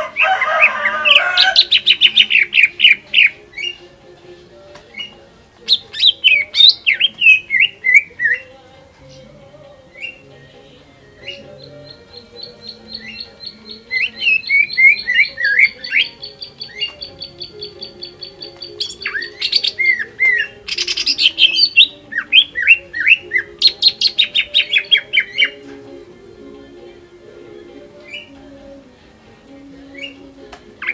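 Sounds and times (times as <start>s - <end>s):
bird singing varied song: 0.0s - 30.9s
faint background music: 0.0s - 30.9s.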